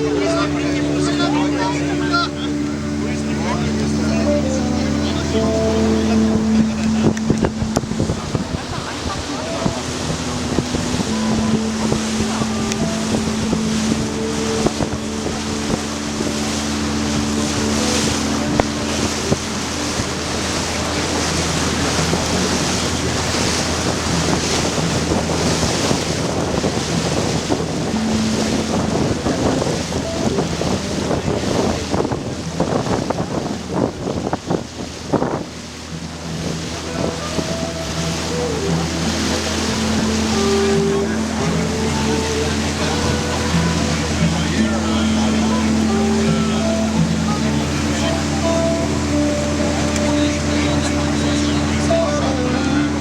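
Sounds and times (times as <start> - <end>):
boat engine drone: 0.0 - 53.0
water washing along hull: 0.0 - 53.0
wind rushing across microphone: 0.0 - 53.0.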